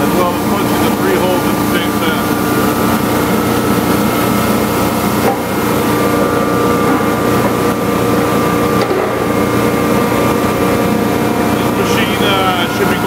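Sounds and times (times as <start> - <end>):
industrial machinery drone: 0.0 - 13.0.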